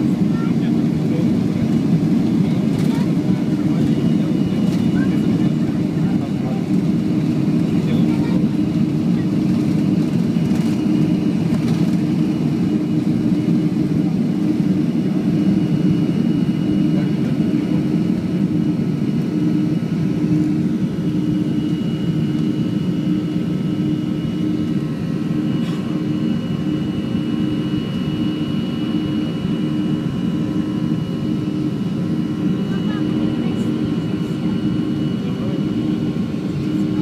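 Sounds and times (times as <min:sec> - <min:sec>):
jet engine rumble and whine: 0:00.0 - 0:37.0.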